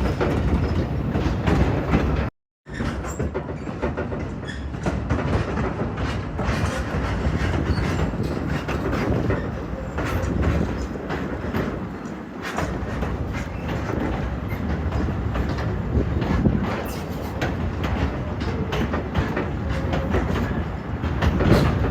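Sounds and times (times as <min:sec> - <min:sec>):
train rumbling on track: 0:00.0 - 0:21.9
wheels clacking: 0:00.0 - 0:21.9.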